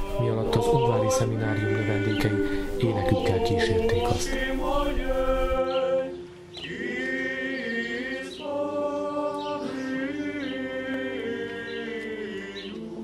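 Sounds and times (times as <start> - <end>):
male choir chanting: 0.0 - 13.0.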